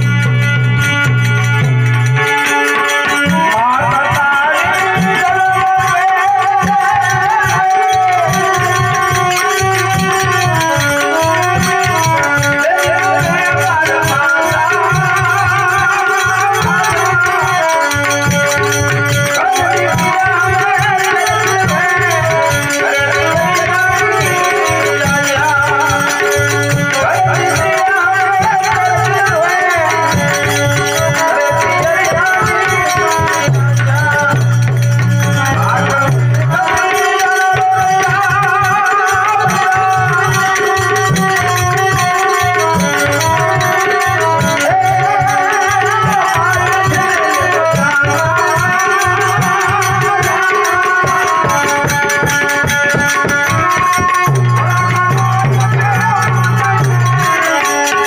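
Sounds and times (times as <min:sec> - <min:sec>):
man singing into a microphone: 0:00.0 - 0:58.0
rattling percussion beat: 0:00.0 - 0:58.0.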